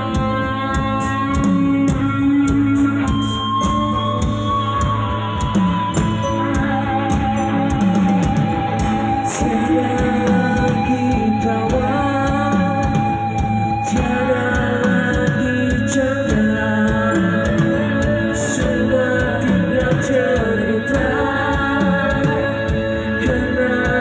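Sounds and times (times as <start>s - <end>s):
drum kit beats: 0.0s - 24.0s
rock band playing: 0.0s - 24.0s
sustained guitar line: 0.0s - 24.0s.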